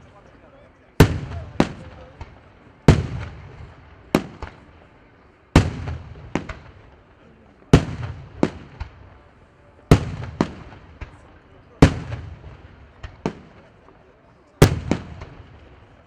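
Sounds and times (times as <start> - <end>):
rolling echo: 0.0 - 16.0
fireworks crackling: 0.9 - 16.0
fireworks bangs: 1.0 - 13.9, 14.6 - 16.0.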